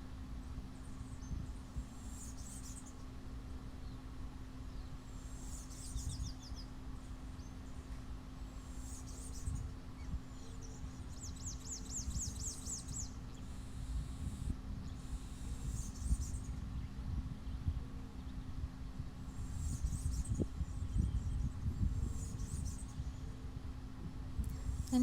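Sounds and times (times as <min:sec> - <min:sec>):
low background rumble and hum: 0:00.0 - 0:25.0
small birds chirping: 0:00.8 - 0:03.1, 0:04.7 - 0:23.4.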